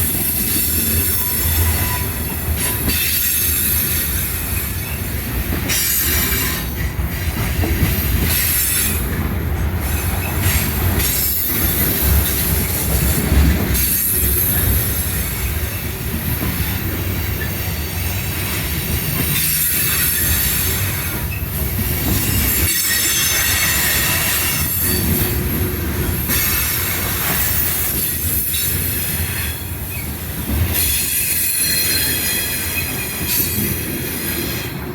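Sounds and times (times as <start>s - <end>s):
freight train cars rumbling: 0.0s - 34.9s
wheels squealing on rails: 0.0s - 34.9s.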